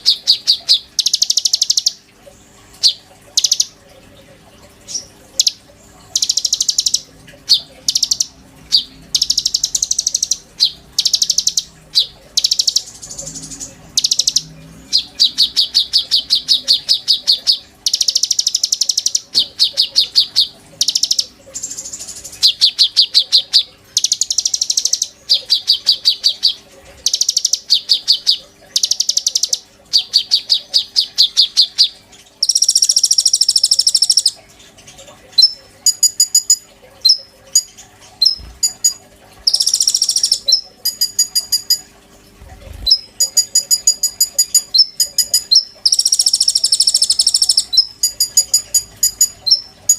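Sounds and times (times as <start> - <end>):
songbird singing trilled phrases: 0.0 - 2.0, 2.8 - 3.7, 4.9 - 34.4, 35.4 - 41.9, 42.8 - 49.9.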